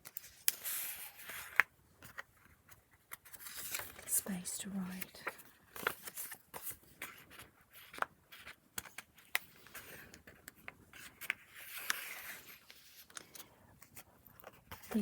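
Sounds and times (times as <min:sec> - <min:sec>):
paper pages clicking and tapping: 0:00.0 - 0:04.1, 0:04.8 - 0:15.0.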